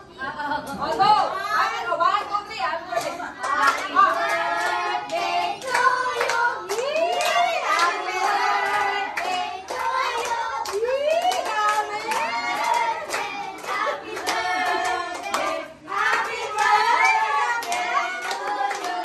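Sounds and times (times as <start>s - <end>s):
adults and children singing: 3.0s - 19.0s
hands clapping along: 3.4s - 19.0s.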